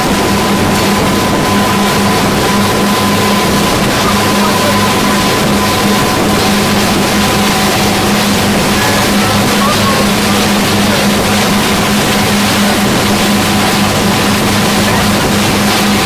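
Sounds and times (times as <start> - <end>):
motorboat engine drone: 0.0 - 16.0
water splashing against hull: 0.0 - 16.0
wind on microphone: 0.0 - 16.0.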